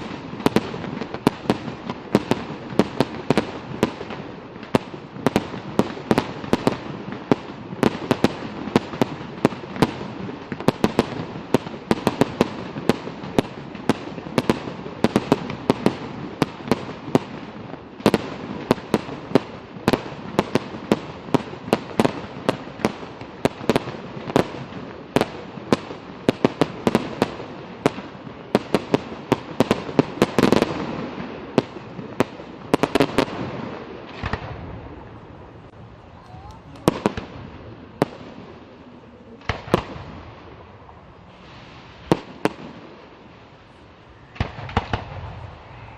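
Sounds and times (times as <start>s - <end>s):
fireworks bangs: 0.0s - 45.9s.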